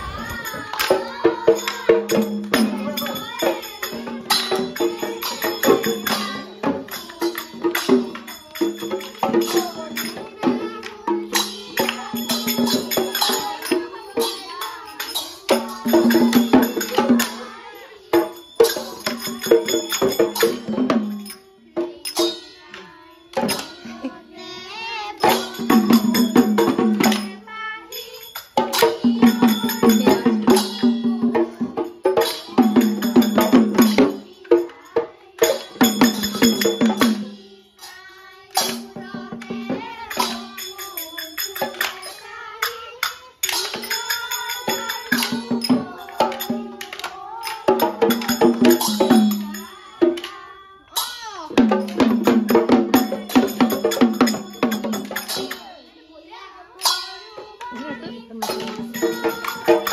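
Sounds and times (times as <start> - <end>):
quick drum beats: 0.0 - 22.6, 23.4 - 50.4, 51.0 - 55.8, 56.8 - 59.9
children singing: 0.0 - 59.9.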